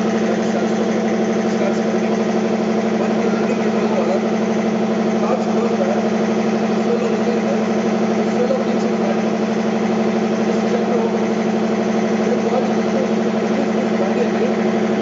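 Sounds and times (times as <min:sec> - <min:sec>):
machine humming with fast pulsing: 0:00.0 - 0:15.0.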